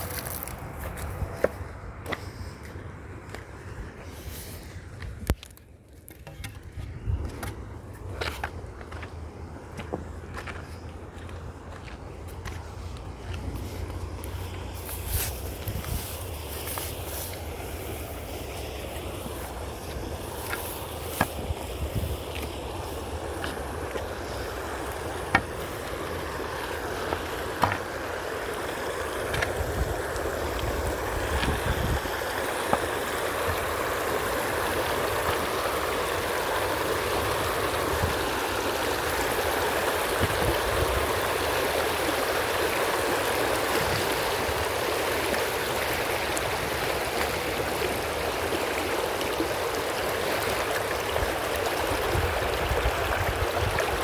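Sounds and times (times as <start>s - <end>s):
creek water flowing over rocks: 0.0s - 4.8s, 8.0s - 54.0s.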